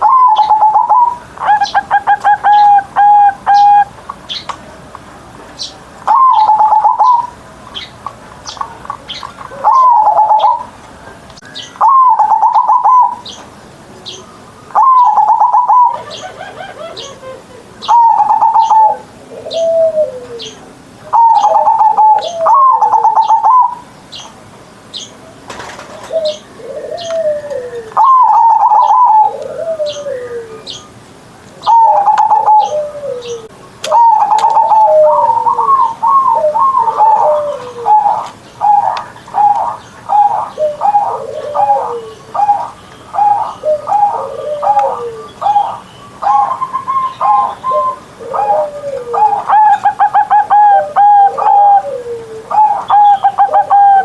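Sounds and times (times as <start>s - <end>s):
dove cooing: 0.0s - 3.9s, 6.0s - 7.4s, 8.8s - 10.8s, 11.8s - 13.3s, 14.8s - 23.9s, 25.6s - 30.9s, 31.6s - 54.0s.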